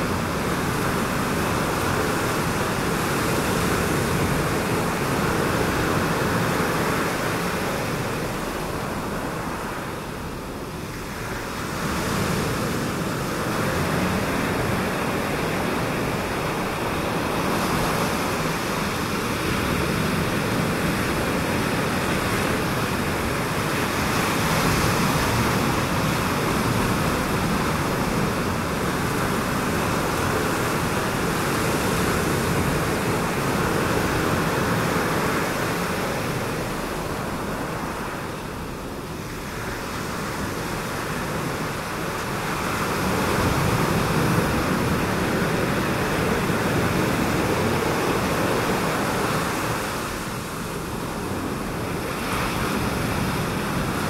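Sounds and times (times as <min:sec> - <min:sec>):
surf breaking on reef: 0:00.0 - 0:54.0.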